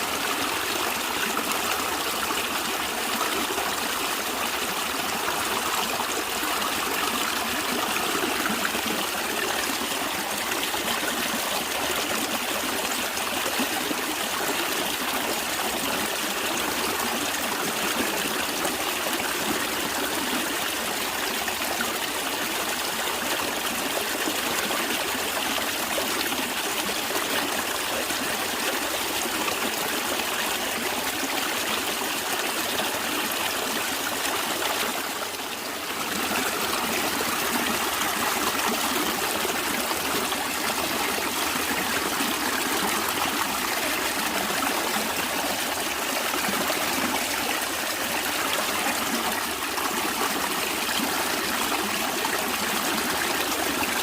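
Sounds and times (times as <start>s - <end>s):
stream flowing and trickling: 0.0s - 54.0s.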